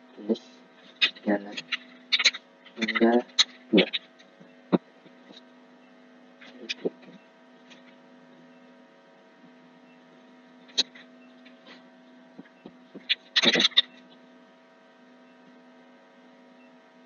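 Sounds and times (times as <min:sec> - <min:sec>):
mains hum: 0:00.0 - 0:17.0.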